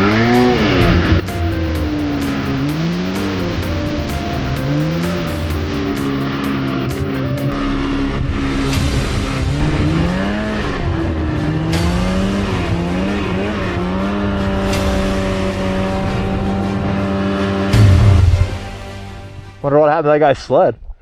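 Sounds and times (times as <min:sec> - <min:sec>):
snowmobile engine running: 0:00.0 - 0:19.6.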